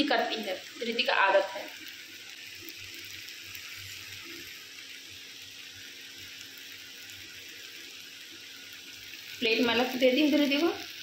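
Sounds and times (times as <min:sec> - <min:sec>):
food frying: 0:00.0 - 0:11.0.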